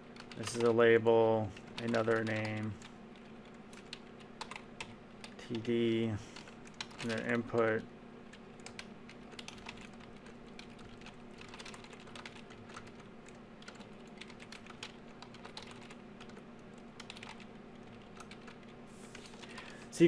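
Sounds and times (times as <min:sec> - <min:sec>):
typing on keyboard: 0:01.6 - 0:05.6, 0:06.4 - 0:19.7.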